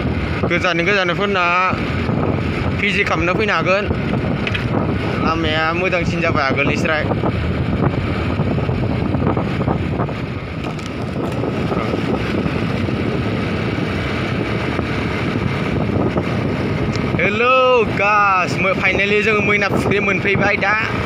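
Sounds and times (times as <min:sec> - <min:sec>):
motorbike engine rumble: 0:00.0 - 0:21.0
tyres on road: 0:00.0 - 0:21.0
wind noise on microphone: 0:00.0 - 0:21.0.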